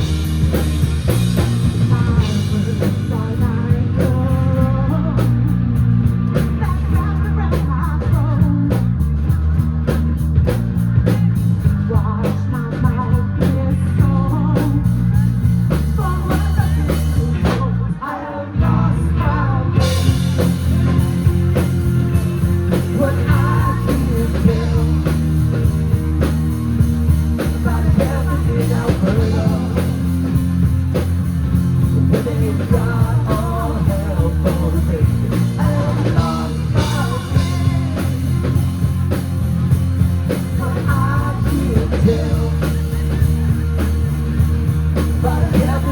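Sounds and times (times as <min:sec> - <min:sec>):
bass guitar: 0:00.0 - 0:45.9
drums: 0:00.0 - 0:45.9
electric guitars: 0:00.0 - 0:45.9.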